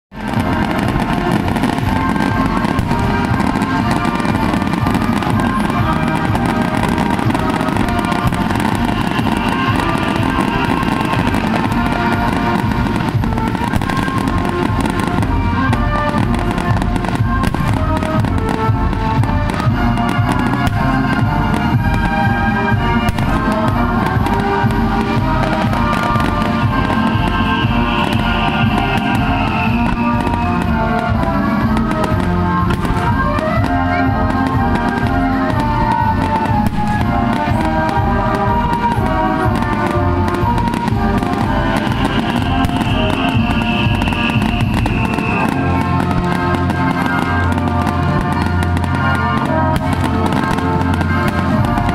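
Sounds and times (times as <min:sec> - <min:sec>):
fireworks popping and crackling: 0:00.1 - 0:51.9
music: 0:00.1 - 0:51.9.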